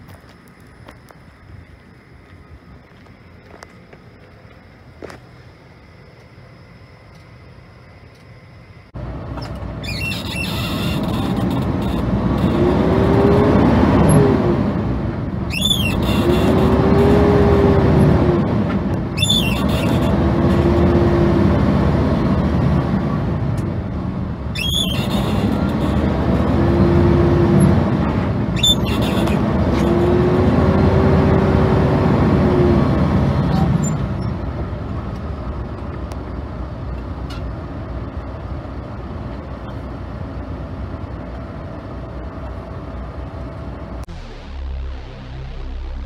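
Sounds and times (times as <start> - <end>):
faint engine whine: 0.0 - 46.0
diesel truck engine from cab: 5.4 - 46.0.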